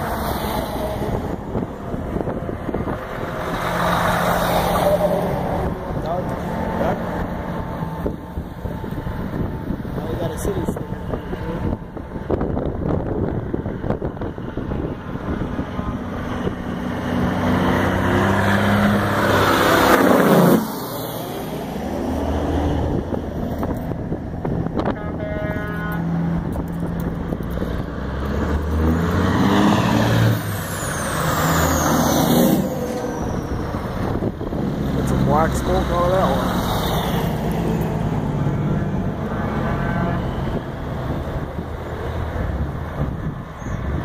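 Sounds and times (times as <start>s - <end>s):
diesel trucks revving past: 0.0s - 44.0s.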